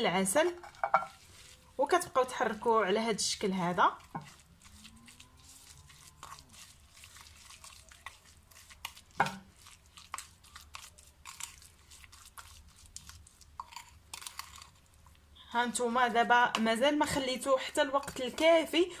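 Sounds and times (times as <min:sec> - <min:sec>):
spoon stirring wet crunching: 0:00.0 - 0:18.9.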